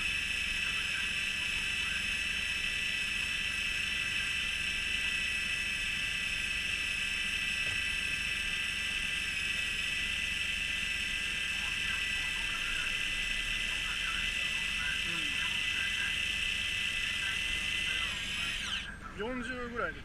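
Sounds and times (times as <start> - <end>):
boat engine drone: 0.0 - 20.0
high-pitched whine: 0.0 - 20.0.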